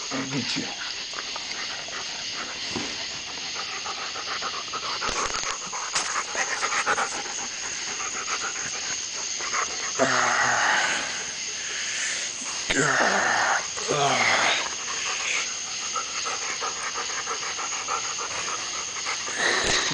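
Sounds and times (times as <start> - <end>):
dogs panting: 0.0 - 12.7, 13.6 - 19.9
loud breathy noise: 3.6 - 19.9.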